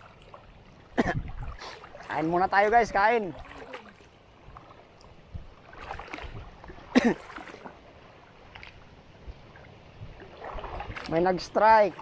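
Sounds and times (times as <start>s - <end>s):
faint water lapping: 0.0s - 12.0s.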